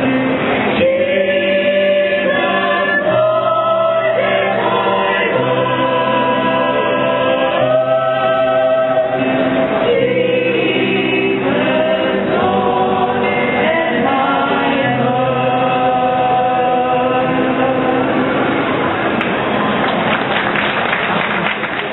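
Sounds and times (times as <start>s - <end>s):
choir singing a carol: 0.0s - 18.9s.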